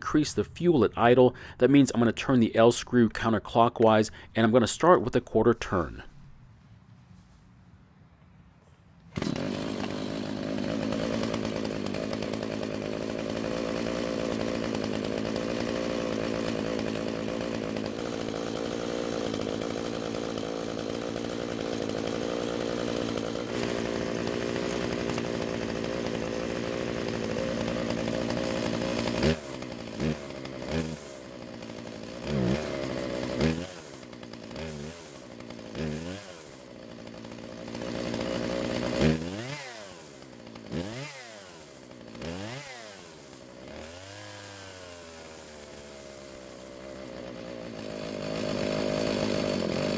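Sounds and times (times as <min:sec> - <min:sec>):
chainsaw engine idling: 0:00.0 - 0:06.3, 0:09.1 - 0:49.9
chainsaw engine revving: 0:09.1 - 0:49.9.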